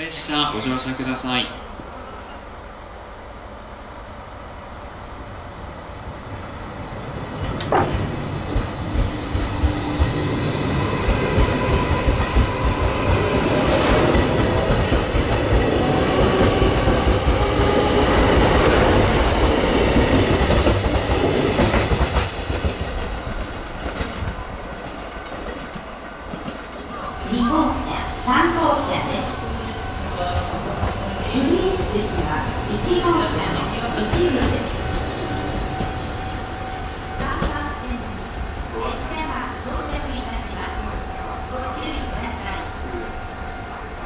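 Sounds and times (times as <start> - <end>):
train passing: 0.0 - 44.0.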